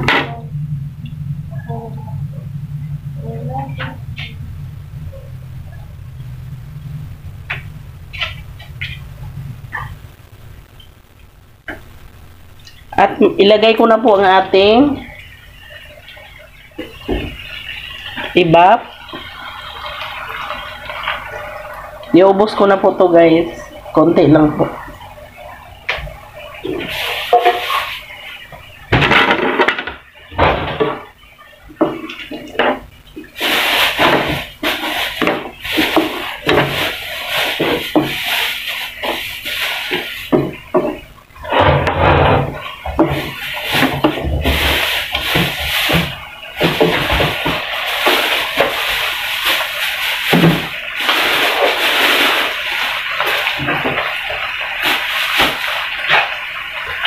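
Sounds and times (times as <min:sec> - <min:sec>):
food sizzling and bubbling in a pan: 0:04.0 - 0:57.0.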